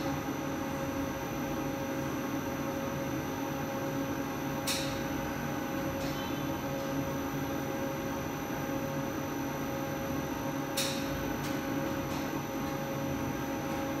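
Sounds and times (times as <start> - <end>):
machine hum over low rumble: 0.0 - 14.0.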